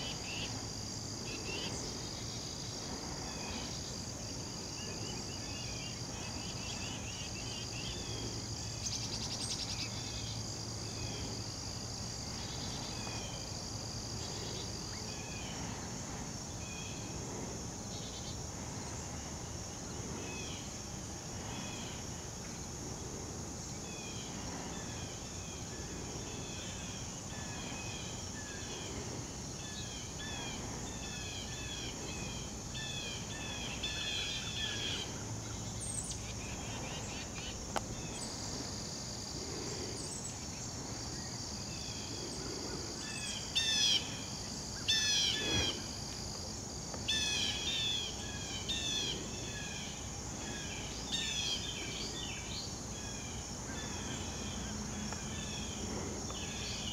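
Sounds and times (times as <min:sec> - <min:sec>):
insect chirps: 0:00.0 - 0:56.9
insect trill: 0:00.0 - 0:56.9.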